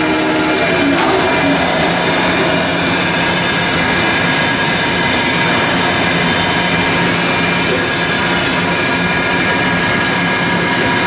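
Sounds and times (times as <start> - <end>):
surface grinder running: 0.0 - 11.0.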